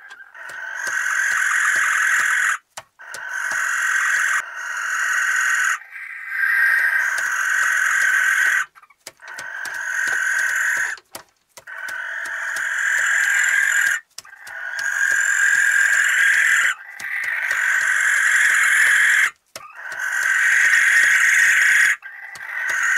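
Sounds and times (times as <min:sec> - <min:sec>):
owls screeching: 0:00.0 - 0:22.9.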